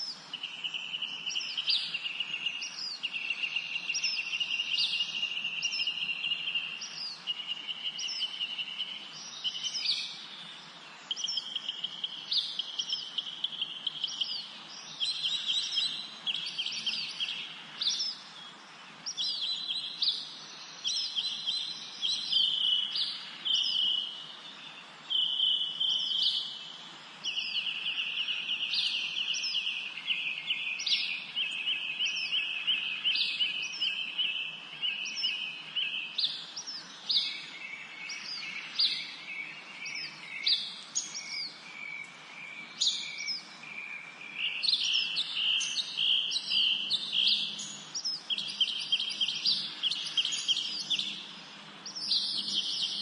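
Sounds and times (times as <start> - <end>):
songbirds trilling: 0.0 - 53.0.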